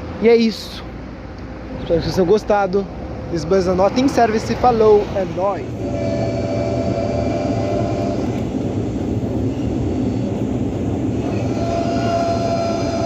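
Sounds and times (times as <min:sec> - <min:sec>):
bus driving heard from inside: 0:00.0 - 0:13.0.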